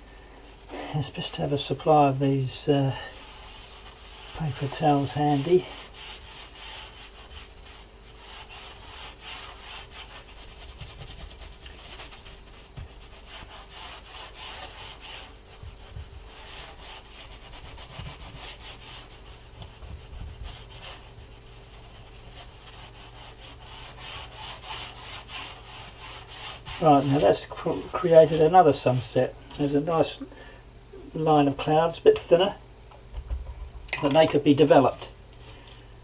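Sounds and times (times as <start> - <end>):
paper towel wiping a board: 1.1 - 30.1.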